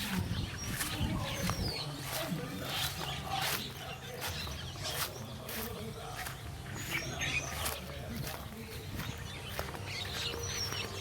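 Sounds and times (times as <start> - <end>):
farmyard birds chirping: 0.0 - 11.0.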